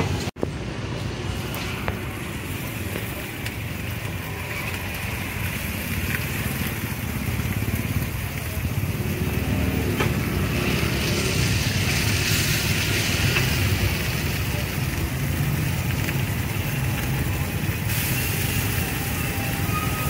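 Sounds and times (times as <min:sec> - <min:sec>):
passing motorbikes: 0:00.0 - 0:20.0
street traffic: 0:00.0 - 0:20.0
meat sizzling in a wok: 0:01.4 - 0:20.0.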